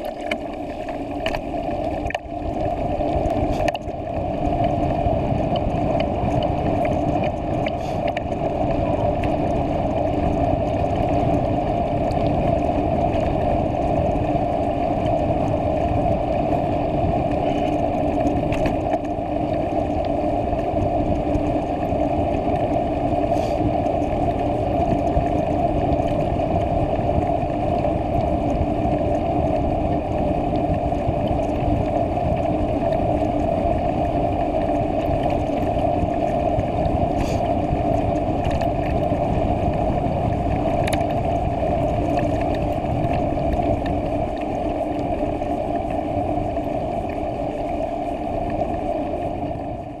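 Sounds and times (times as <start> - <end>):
bicycle tyres on asphalt: 0.0 - 50.0.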